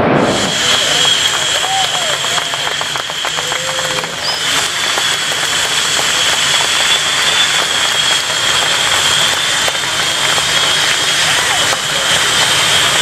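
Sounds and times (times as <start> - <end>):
jet engines whining and roaring: 0.0 - 13.0.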